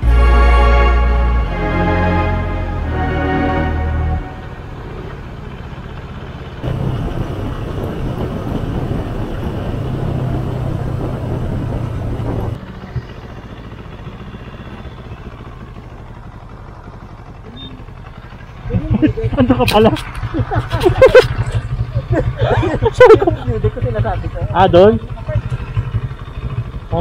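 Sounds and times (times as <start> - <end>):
road and wind noise: 0.0 - 27.0
motorcycle engine running: 1.5 - 27.0.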